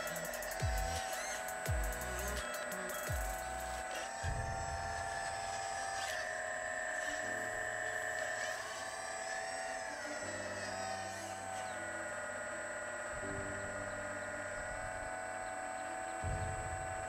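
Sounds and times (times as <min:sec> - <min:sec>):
hydraulic pump and motor whining: 0:00.0 - 0:17.0.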